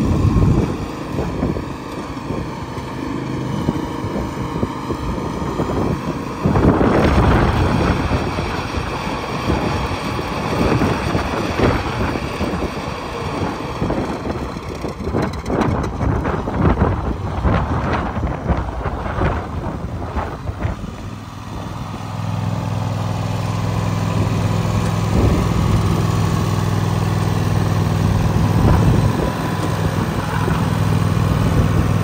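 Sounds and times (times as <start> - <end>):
lawn tractor engine running: 0.0 - 32.0
wind buffeting microphone: 0.0 - 32.0.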